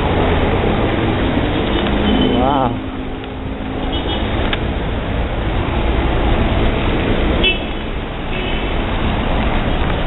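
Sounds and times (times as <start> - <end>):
cars passing on wet road: 0.0 - 10.0.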